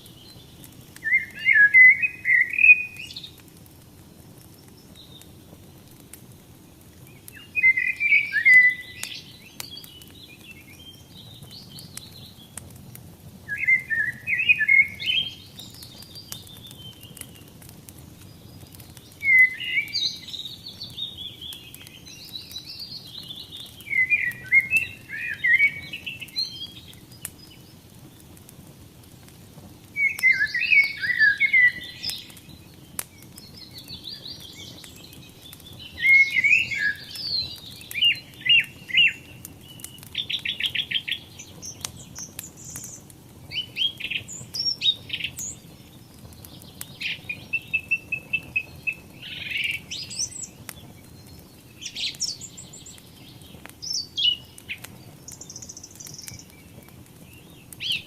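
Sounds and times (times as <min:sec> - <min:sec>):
wood fire crackling and hissing: 0:00.0 - 0:58.0
songbird singing warbled phrases: 0:00.2 - 0:03.4, 0:07.1 - 0:12.6, 0:13.5 - 0:17.5, 0:18.3 - 0:27.7, 0:30.0 - 0:58.0.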